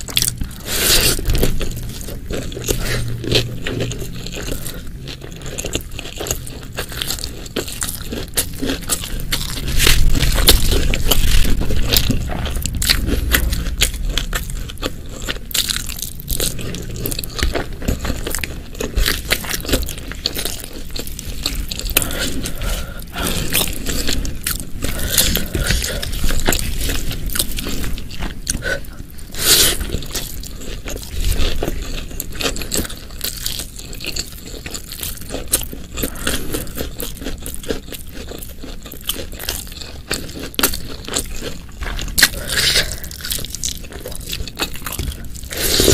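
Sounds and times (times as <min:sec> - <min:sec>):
person chewing and biting food: 0:00.0 - 0:45.9.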